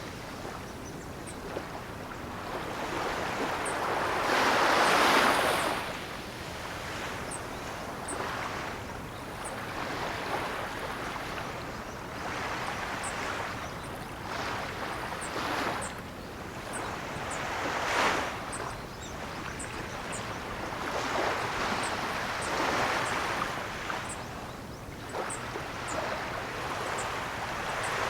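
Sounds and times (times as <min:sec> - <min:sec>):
ocean waves washing onto shore: 0:00.0 - 0:28.0.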